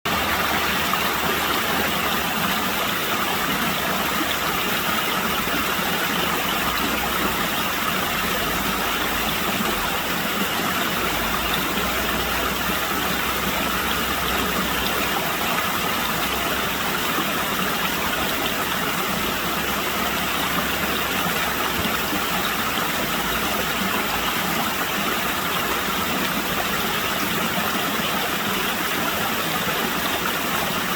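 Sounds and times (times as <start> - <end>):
water rushing: 0.1 - 30.9.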